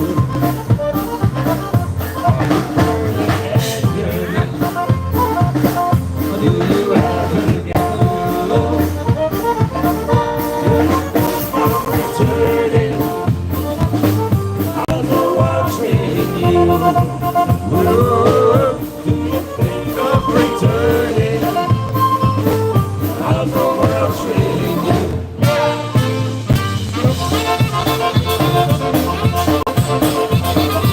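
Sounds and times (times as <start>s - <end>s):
polka band playing: 0.0s - 30.9s
steady bass beat: 0.0s - 30.9s.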